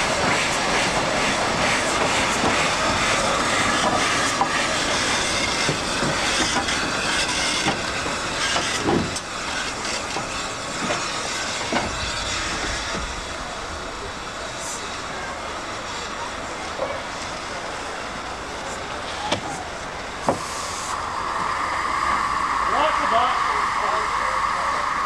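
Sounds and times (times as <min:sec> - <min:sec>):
steam hissing: 0:00.0 - 0:25.0.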